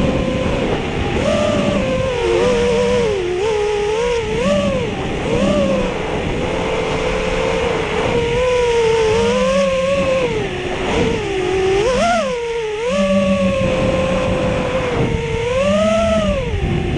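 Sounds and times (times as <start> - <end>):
drone motors whining: 0.0 - 16.9
steady rushing noise: 0.0 - 16.9.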